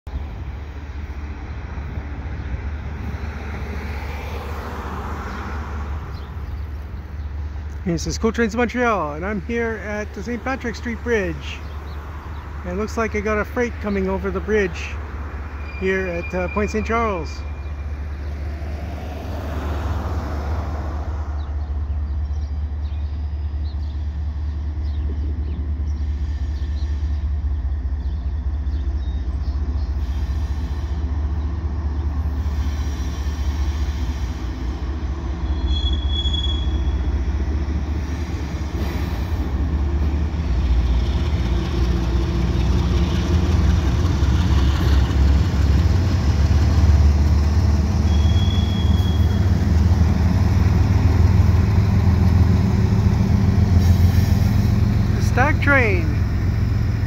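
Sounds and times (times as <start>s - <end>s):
diesel locomotive engines rumbling: 0.1s - 57.0s.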